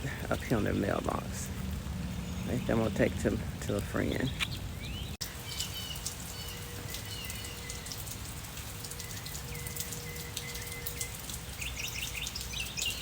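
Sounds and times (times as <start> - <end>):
rain drops ticking: 0.0 - 13.0.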